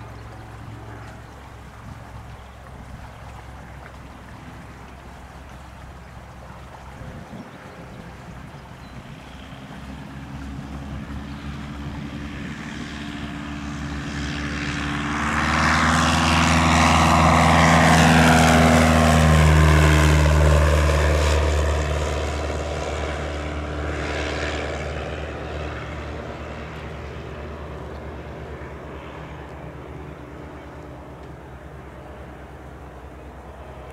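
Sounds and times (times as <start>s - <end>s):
small plane engine and propeller: 0.0s - 33.9s.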